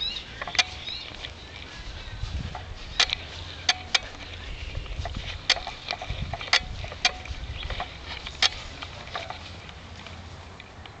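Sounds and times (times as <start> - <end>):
low rumble on microphone: 0.0 - 10.5.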